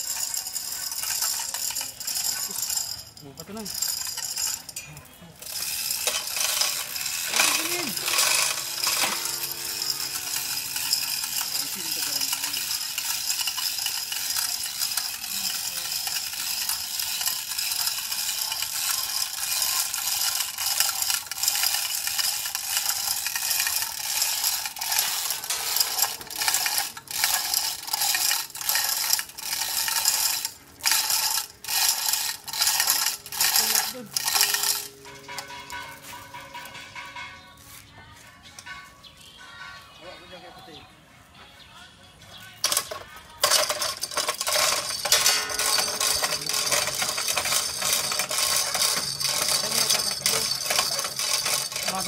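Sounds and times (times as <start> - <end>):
ratchet-like mechanical clicking: 0.0 - 37.3, 42.6 - 52.0.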